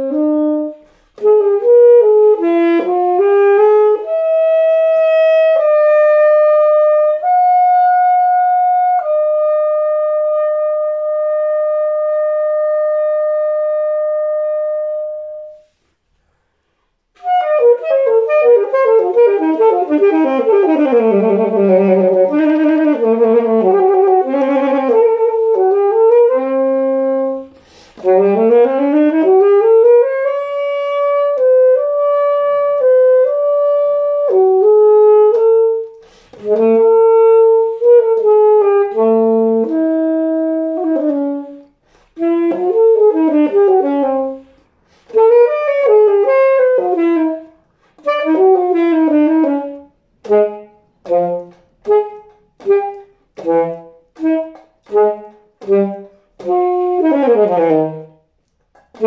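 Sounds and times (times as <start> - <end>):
alto saxophone solo: 0.0 - 59.0.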